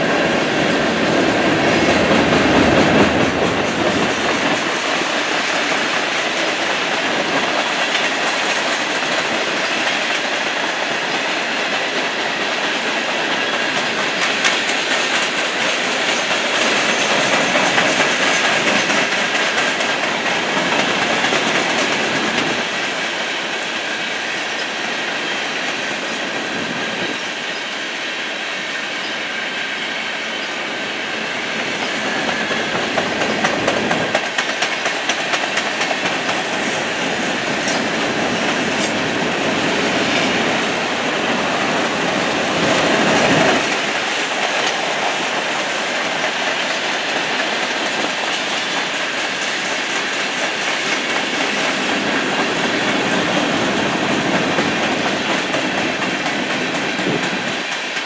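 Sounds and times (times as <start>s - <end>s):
train wheels clacking over rail joints: 0.0s - 27.9s, 29.5s - 58.0s.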